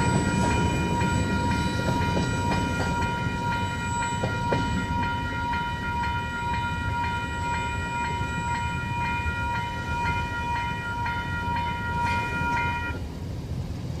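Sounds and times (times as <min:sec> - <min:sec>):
level crossing warning bell: 0:00.0 - 0:13.1
passing train rumble: 0:00.0 - 0:14.0.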